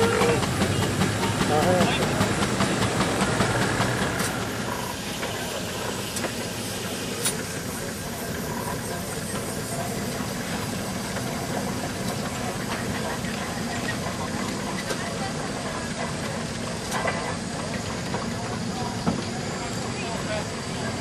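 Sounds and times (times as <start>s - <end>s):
steam engine running: 0.0s - 21.0s
steam hissing: 0.0s - 21.0s.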